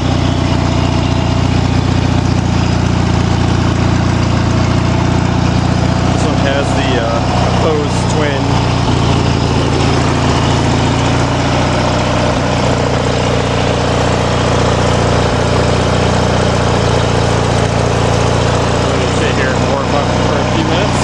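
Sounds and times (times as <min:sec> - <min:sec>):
lawn tractor engine idling: 0:00.0 - 0:21.0.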